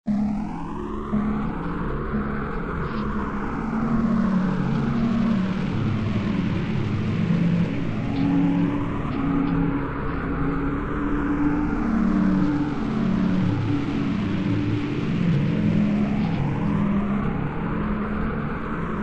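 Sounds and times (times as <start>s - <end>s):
low rumbling drone: 0.1s - 19.0s.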